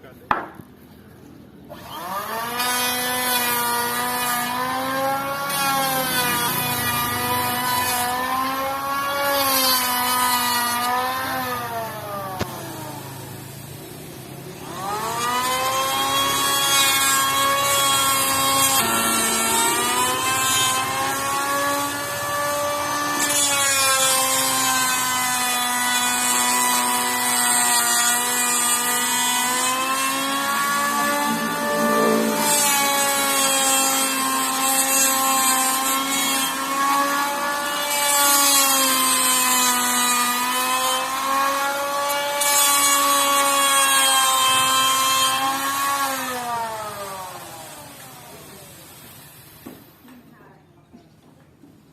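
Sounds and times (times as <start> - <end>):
electric hand planer motor whine: 1.7 - 13.2, 14.6 - 49.8
planer cutting wood hiss: 1.8 - 49.9.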